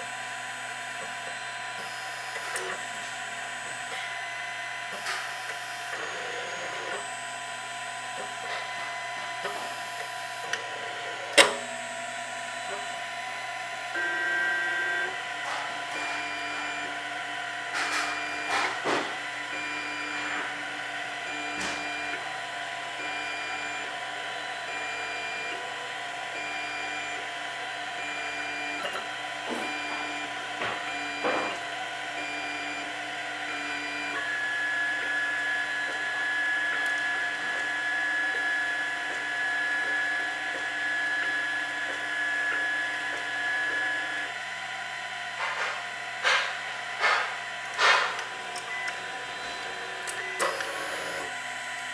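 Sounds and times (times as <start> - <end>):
stepper motors whining: 0.0 - 51.9.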